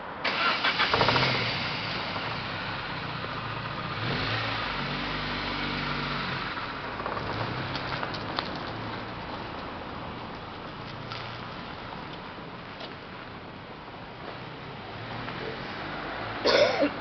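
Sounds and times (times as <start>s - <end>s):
car engine starting and running: 0.1s - 17.0s.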